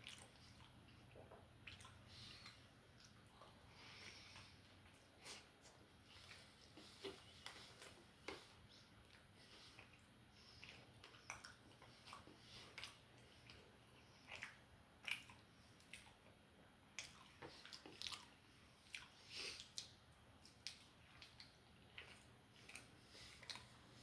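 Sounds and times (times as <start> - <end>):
chewing and biting food: 0.0 - 16.3, 16.9 - 24.0.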